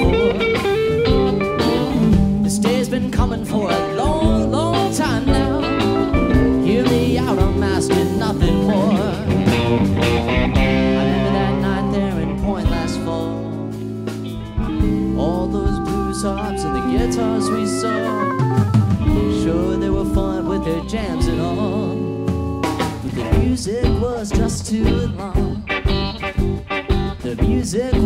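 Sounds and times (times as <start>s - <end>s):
bass: 0.0s - 28.0s
drums: 0.0s - 28.0s
electric guitar lead with bent notes: 0.0s - 28.0s
keyboard: 0.0s - 28.0s.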